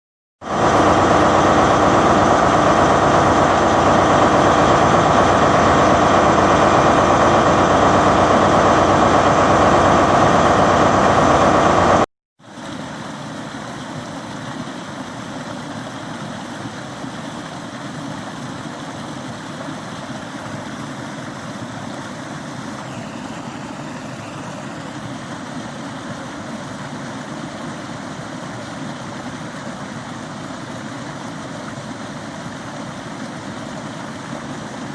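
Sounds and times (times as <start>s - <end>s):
stream water rushing: 0.4s - 34.9s.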